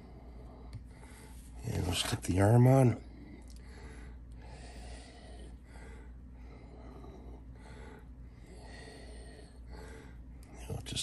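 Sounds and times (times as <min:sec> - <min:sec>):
man breathing through the nose: 0:00.0 - 0:01.6, 0:03.0 - 0:10.4
constant low hum: 0:00.0 - 0:11.0.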